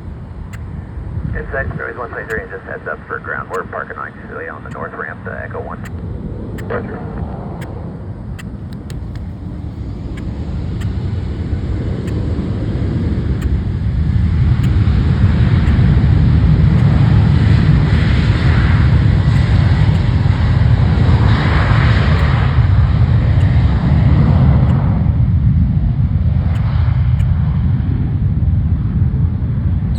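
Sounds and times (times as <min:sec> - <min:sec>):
jet airliner engines rumbling: 0:00.0 - 0:29.9.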